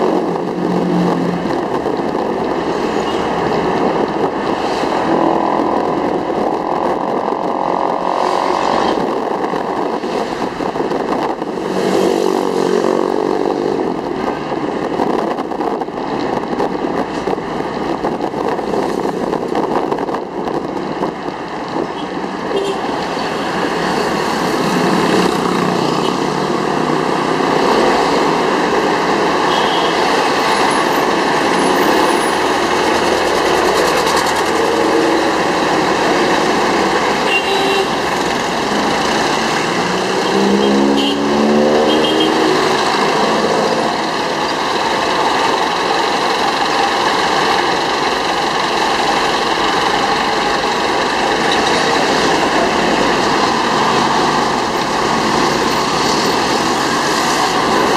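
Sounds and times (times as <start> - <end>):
vehicle engine and road noise: 0.0 - 57.9.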